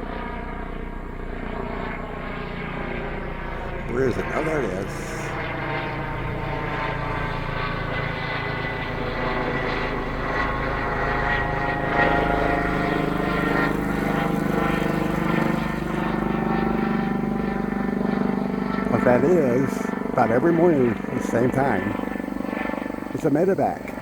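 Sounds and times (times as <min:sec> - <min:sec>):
helicopter flying by: 0:00.0 - 0:24.0.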